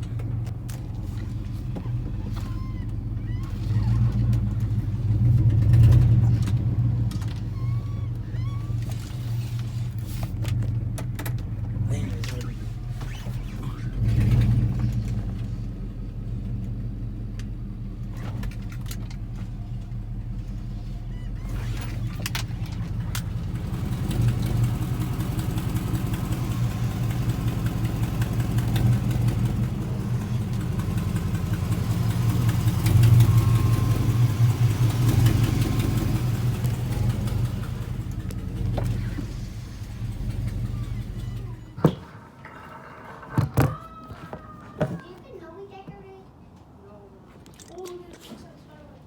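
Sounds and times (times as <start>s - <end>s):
vehicle engine humming: 0.0s - 45.1s.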